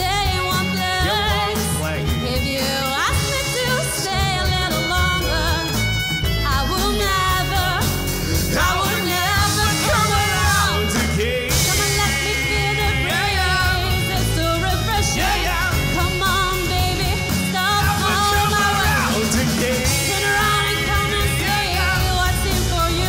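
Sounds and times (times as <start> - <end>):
acoustic guitar: 0.0 - 23.0
drum kit: 0.0 - 23.0
electric bass: 0.0 - 23.0
violin: 0.0 - 23.0
woman singing: 0.0 - 23.0.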